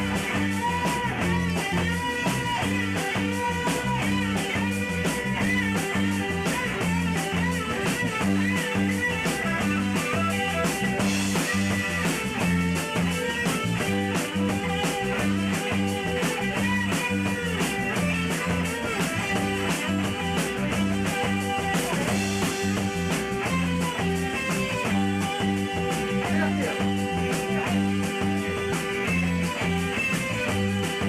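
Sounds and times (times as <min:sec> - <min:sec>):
bass guitar: 0:00.0 - 0:31.0
drum kit beat: 0:00.0 - 0:31.0
electric guitar lines: 0:00.0 - 0:31.0.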